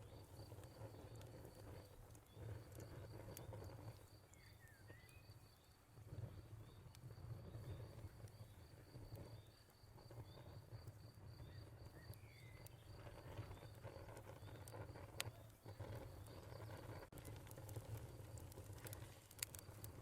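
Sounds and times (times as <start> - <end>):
fire crackling pops: 0.0 - 20.0
fire rumbling: 0.0 - 20.0
cricket chirping: 0.1 - 20.0.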